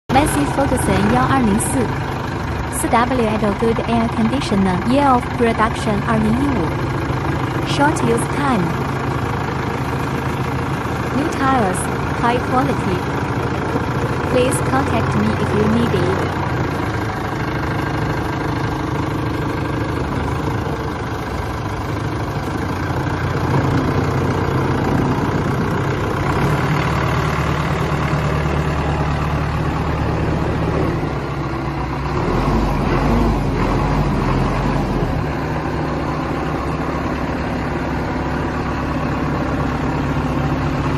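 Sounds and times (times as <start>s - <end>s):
tractor diesel engine idling: 0.1s - 40.9s.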